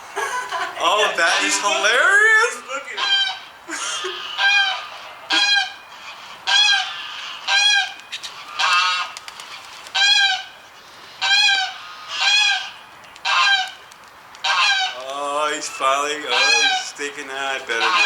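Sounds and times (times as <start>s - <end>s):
waterfowl calling: 0.8s - 18.0s.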